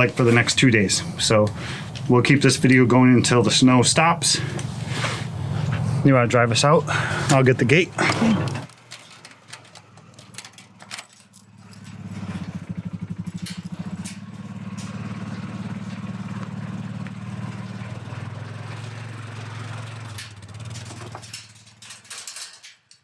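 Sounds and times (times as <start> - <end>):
vehicle engine running: 0.0 - 8.7, 11.4 - 22.0.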